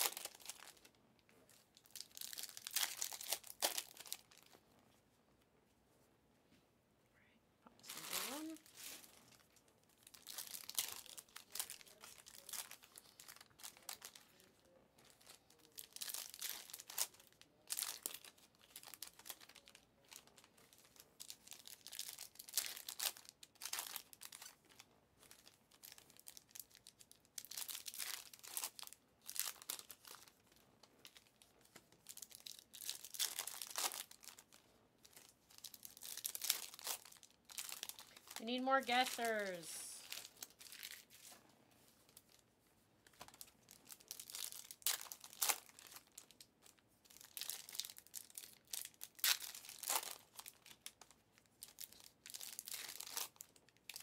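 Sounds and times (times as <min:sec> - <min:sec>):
foil wrappers crinkling and tearing: 0:00.0 - 0:04.6, 0:07.8 - 0:41.4, 0:43.0 - 0:54.0.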